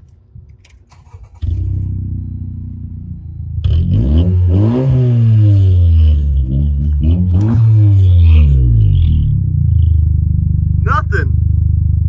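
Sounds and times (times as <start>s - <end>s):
car engine revving: 1.0s - 12.0s.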